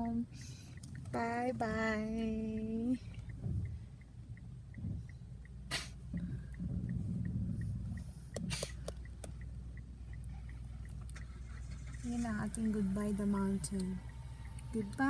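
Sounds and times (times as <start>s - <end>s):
sharp clicks: 0.0s - 15.0s
steady low rumble: 0.0s - 15.0s.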